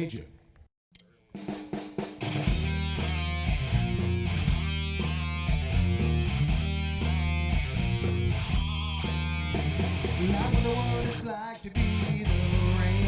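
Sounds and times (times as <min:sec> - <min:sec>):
drum kit beat on cymbals: 0:01.4 - 0:13.0
bass guitar: 0:02.2 - 0:13.0
electric guitars: 0:02.2 - 0:13.0.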